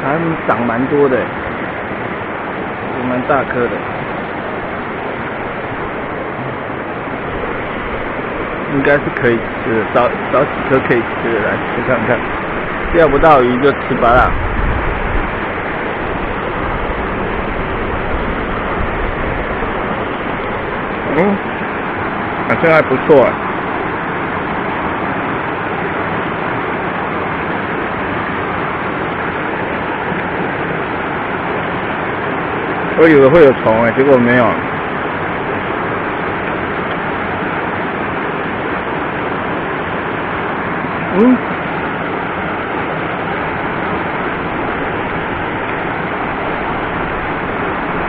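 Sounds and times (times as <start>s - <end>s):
fast-flowing mountain stream rushing: 0.0s - 48.0s
strong wind on microphone: 0.0s - 48.0s.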